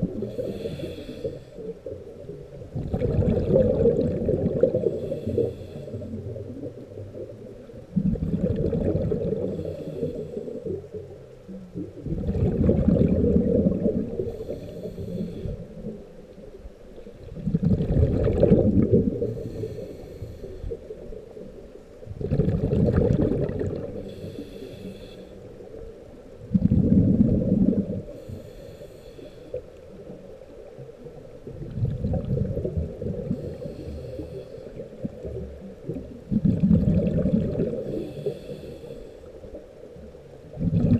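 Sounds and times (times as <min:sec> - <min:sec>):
underwater rushing water: 0:00.0 - 0:40.9.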